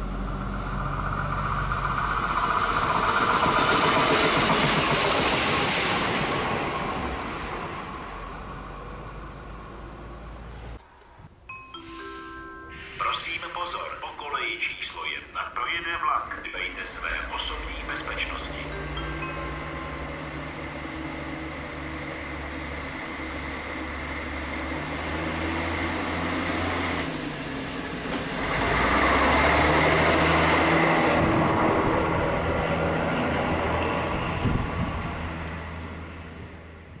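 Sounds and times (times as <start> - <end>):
railbus engine hum passing: 0.0 - 37.0.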